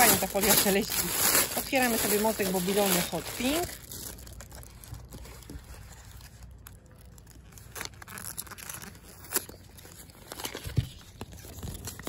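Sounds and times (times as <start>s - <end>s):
plastic foil rustling and tearing: 0.0s - 12.0s.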